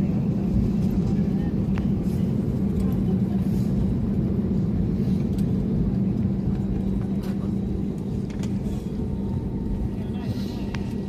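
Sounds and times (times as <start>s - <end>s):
aircraft cabin rumble: 0.0s - 11.0s
engine and air system hum: 0.1s - 11.0s.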